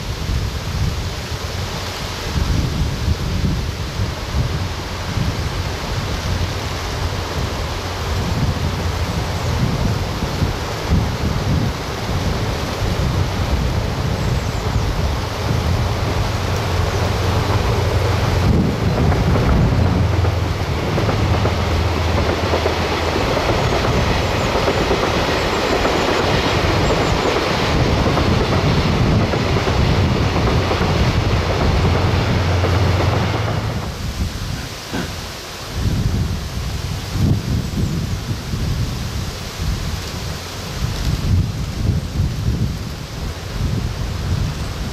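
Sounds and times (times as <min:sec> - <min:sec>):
train engine drone: 0:00.0 - 0:44.9
train wagons rumbling on rails: 0:00.0 - 0:44.9.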